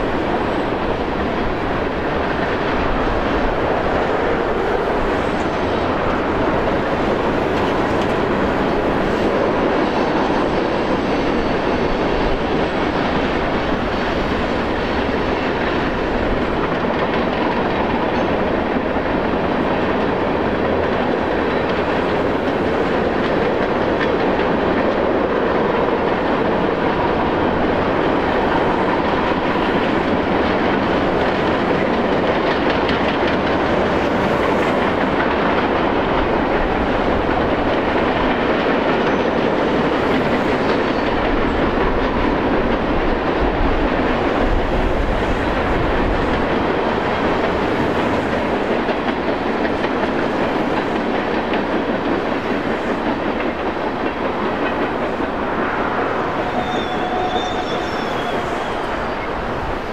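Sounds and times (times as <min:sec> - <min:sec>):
freight train rolling over bridge: 0:00.0 - 0:59.9
train wheel clicks: 0:00.2 - 0:59.9.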